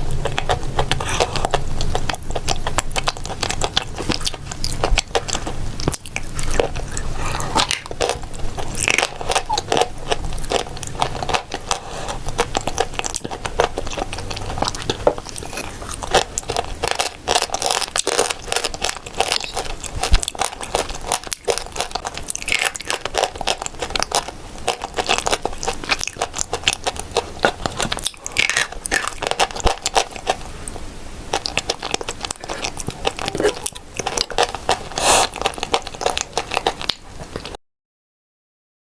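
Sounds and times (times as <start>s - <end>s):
person chewing crunchy paste: 0.0s - 37.6s.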